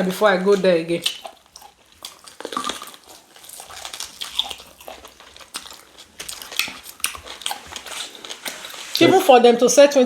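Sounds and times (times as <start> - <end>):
wet chewing and lip-smacking: 0.0 - 9.1.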